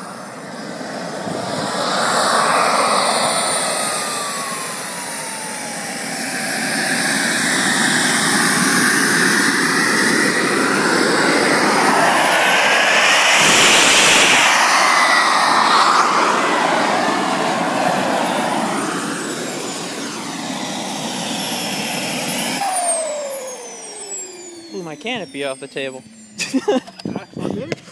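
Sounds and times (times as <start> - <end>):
model jet turbine hissing: 0.0 - 26.0
turbine whine: 0.0 - 27.9.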